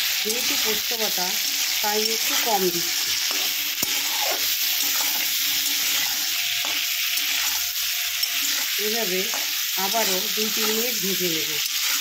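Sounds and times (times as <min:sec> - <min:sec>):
vegetables sizzling in oil: 0:00.0 - 0:12.0
spatula scraping a wok: 0:00.1 - 0:12.0.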